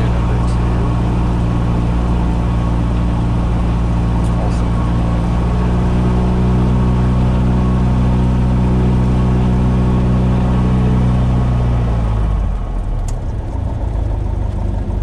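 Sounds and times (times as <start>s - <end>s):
light aircraft engine and propeller: 0.0s - 15.0s.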